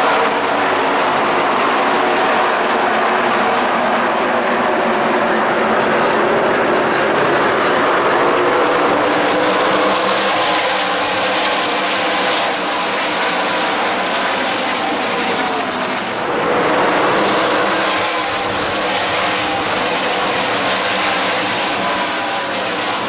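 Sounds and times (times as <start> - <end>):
race truck engines droning: 0.0 - 23.0.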